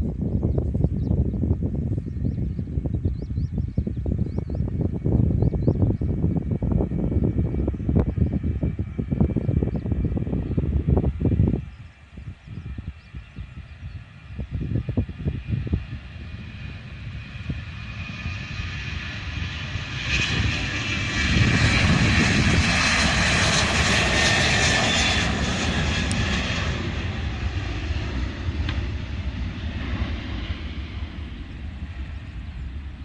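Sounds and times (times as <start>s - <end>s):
airplane engine flying past: 0.0s - 33.0s.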